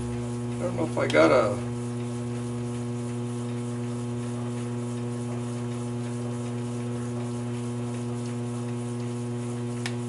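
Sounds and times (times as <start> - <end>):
lathe motor humming: 0.0 - 10.0.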